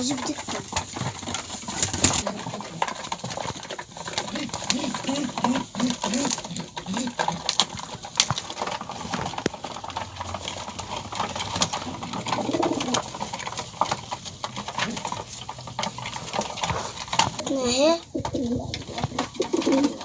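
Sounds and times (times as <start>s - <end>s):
pigeons cooing: 0.0s - 20.0s
sharp clicks and knocks: 0.0s - 20.0s.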